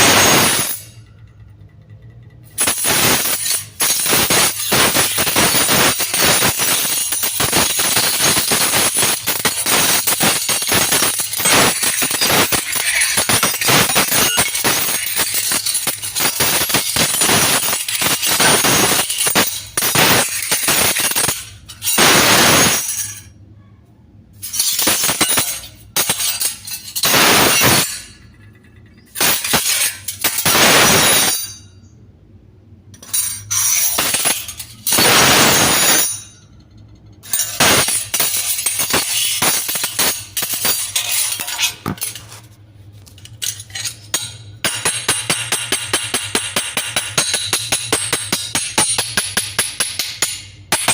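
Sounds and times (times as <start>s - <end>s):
steel spoons clinking together: 2.6s - 23.3s, 24.4s - 31.6s, 37.2s - 42.4s, 43.1s - 50.9s.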